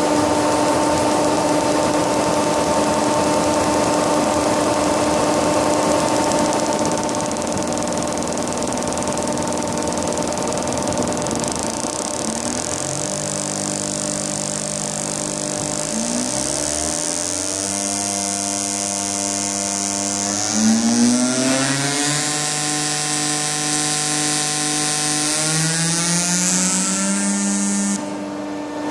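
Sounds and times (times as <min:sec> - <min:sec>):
hydraulic actuator buzzing: 0:00.0 - 0:28.2.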